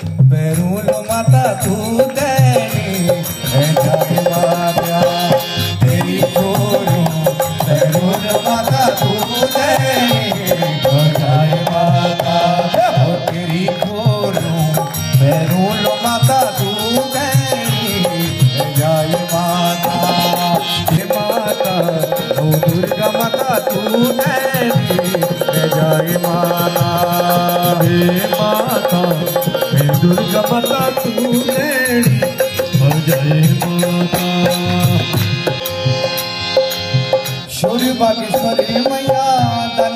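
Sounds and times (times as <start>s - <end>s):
dholak hand drum rhythm: 0.0s - 39.9s
harmonium melody over drone: 0.0s - 39.9s.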